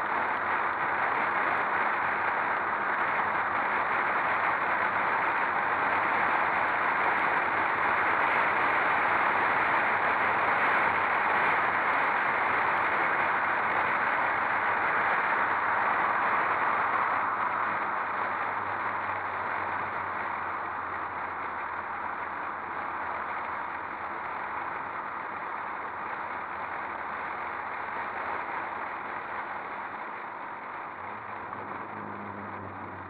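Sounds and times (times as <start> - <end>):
faint low engine hum: 0.0 - 33.0
wind and road noise rushing: 0.0 - 33.0.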